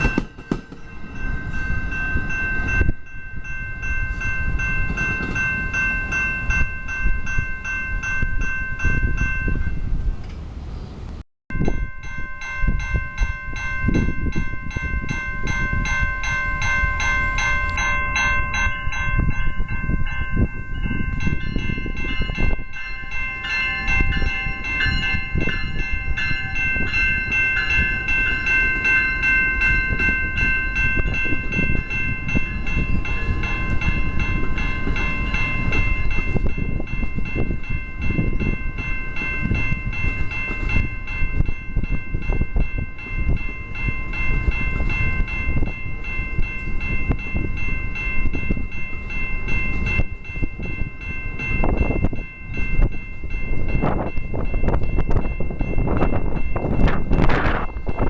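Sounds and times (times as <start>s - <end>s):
train wheels rumbling on rail: 0.0s - 58.0s
high-pitched ringing tones: 11.5s - 58.0s.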